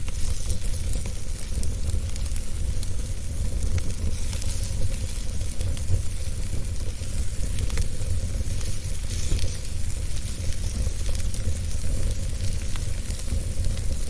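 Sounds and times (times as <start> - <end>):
fire crackles and pops: 0.0 - 14.0
wood fire rumble and hiss: 0.0 - 14.0.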